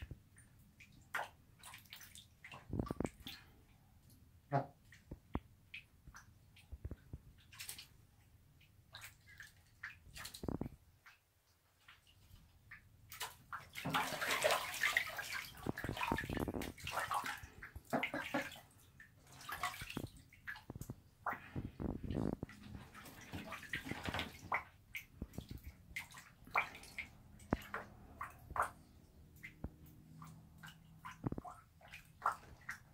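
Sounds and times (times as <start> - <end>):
water splashing in bathtub: 0.0 - 32.9.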